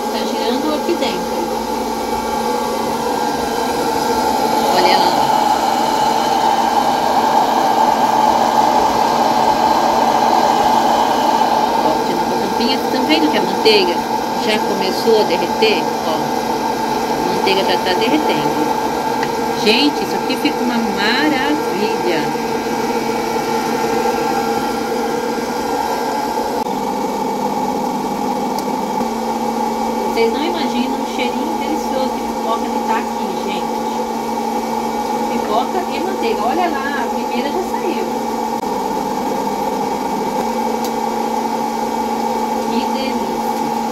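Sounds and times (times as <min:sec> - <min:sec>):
popcorn popper fan whooshing: 0:00.0 - 0:43.9.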